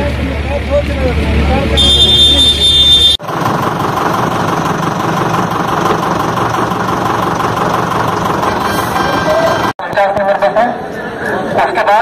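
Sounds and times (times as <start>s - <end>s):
bus engine idling: 0.0s - 9.8s.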